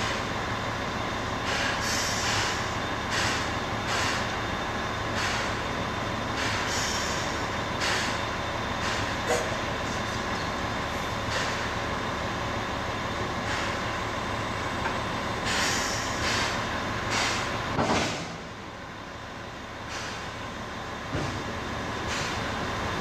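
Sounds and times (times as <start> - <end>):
steam locomotive mechanical noise: 0.0 - 23.0.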